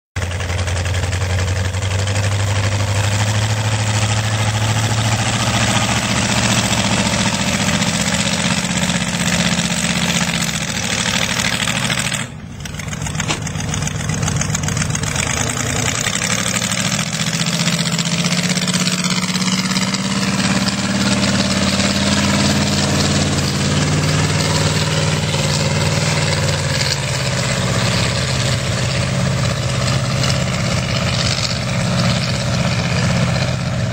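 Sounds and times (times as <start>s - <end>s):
truck engine revving: 0.2s - 33.9s.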